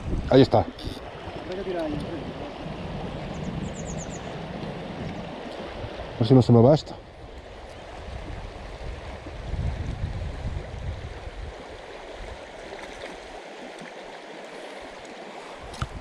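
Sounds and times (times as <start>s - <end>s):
river flowing over stones: 0.7s - 16.0s.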